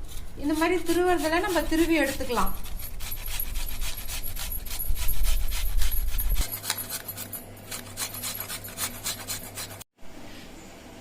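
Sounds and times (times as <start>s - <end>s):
ginger grated on a grater: 0.0s - 9.8s.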